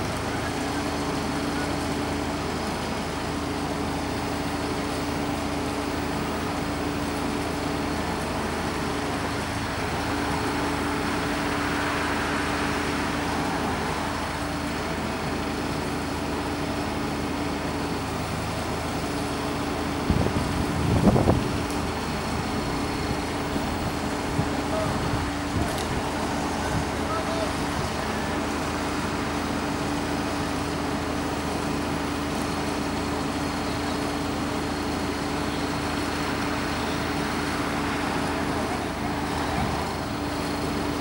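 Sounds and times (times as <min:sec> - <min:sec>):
truck engine idling: 0:00.0 - 0:41.0.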